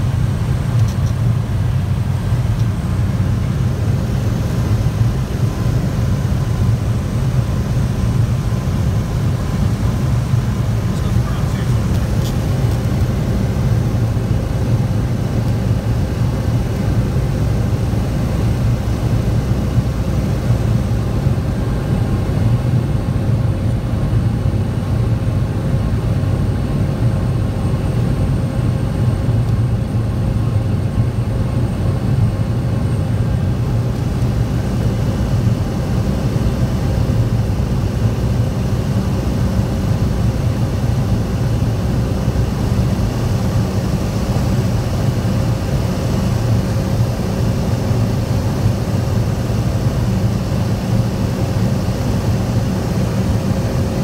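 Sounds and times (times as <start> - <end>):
propeller engine droning: 0.0 - 54.0
thin steady whine: 0.0 - 54.0.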